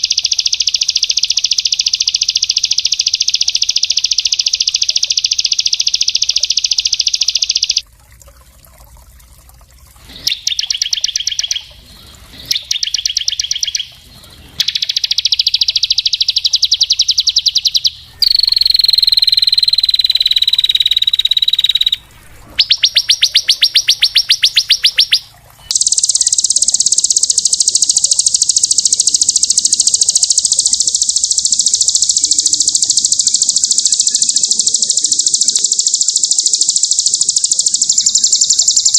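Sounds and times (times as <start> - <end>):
songbird trills and chattering: 0.0 - 7.8, 10.1 - 38.9.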